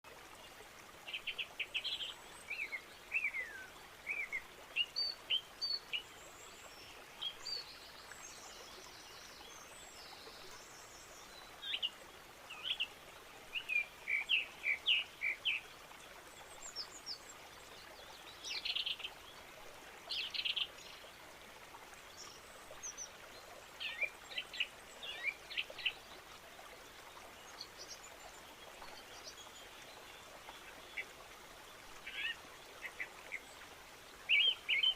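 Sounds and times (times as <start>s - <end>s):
faint background hiss: 0.1s - 34.9s.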